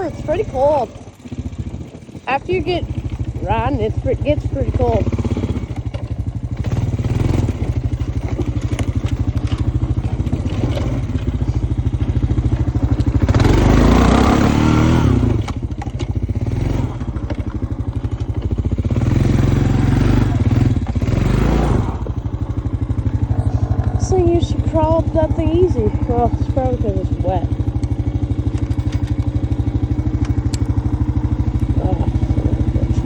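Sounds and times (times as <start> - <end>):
atv engine under load: 0.0 - 33.0.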